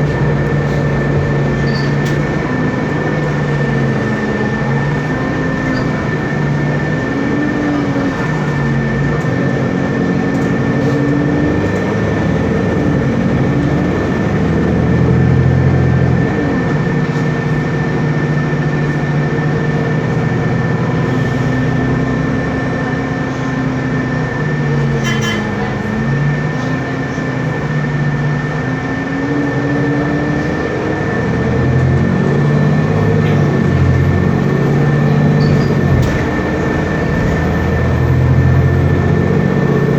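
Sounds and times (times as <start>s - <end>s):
bus diesel engine running: 0.0s - 39.9s
high whine: 0.0s - 39.9s.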